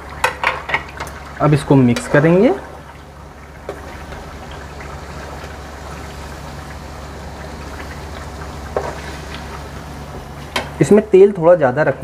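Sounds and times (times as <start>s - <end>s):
onions sizzling in hot oil: 0.0s - 11.1s.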